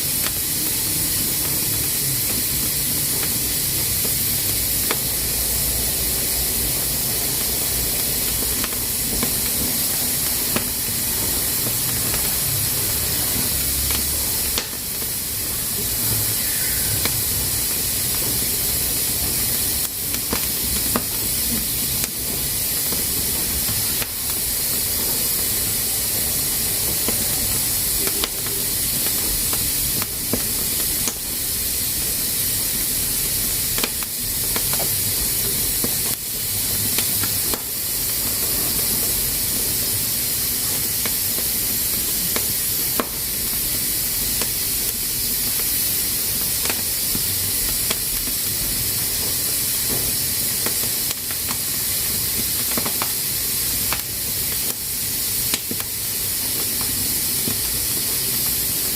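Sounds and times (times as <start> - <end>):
pressure cooker steam hiss: 0.0 - 58.9.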